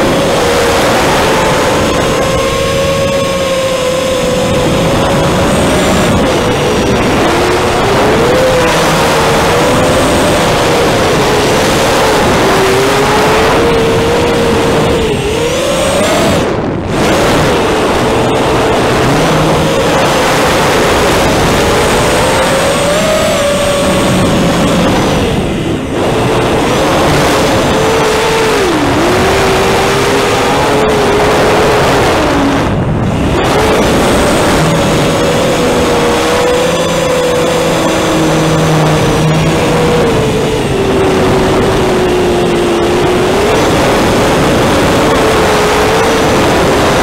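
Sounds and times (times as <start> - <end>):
drone motors buzzing: 0.0 - 47.0.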